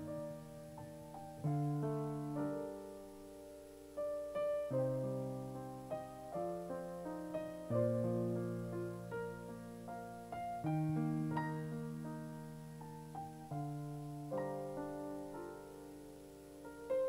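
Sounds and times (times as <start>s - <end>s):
slow soft piano chords: 0.0s - 17.0s.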